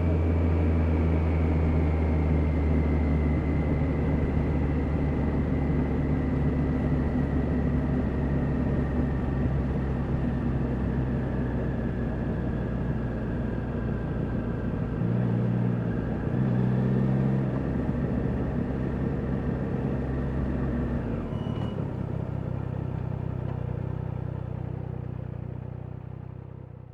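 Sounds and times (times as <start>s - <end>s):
motorcycle engine running at low revs: 0.0s - 26.9s.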